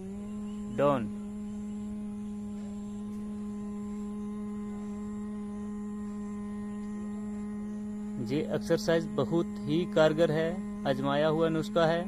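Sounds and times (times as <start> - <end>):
steady meditation drone: 0.0 - 12.0.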